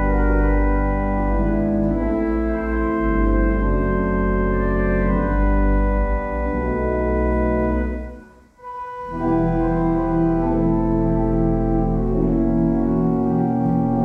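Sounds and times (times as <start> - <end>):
deep organ pedal bass: 0.0 - 14.0
pipe organ chords: 0.0 - 14.0.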